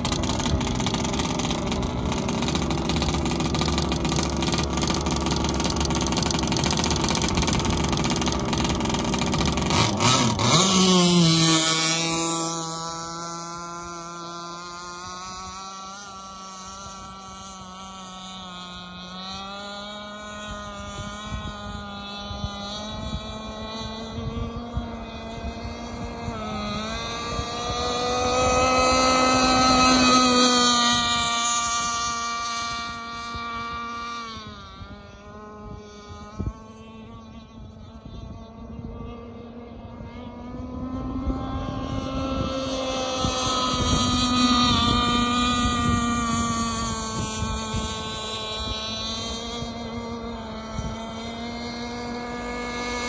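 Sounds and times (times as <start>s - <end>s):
high-pitched boat engine: 0.0s - 53.0s
wind buffeting microphone: 0.0s - 53.0s.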